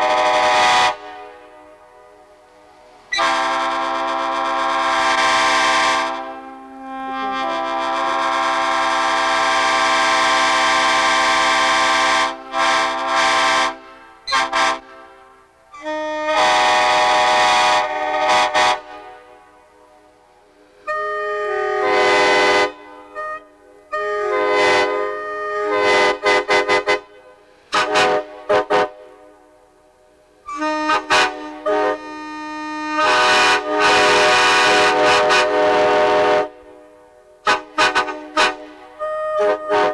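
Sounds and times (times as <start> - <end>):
train horn chord blasts: 0.0 - 2.2, 3.1 - 20.1, 20.8 - 29.4, 30.5 - 39.9.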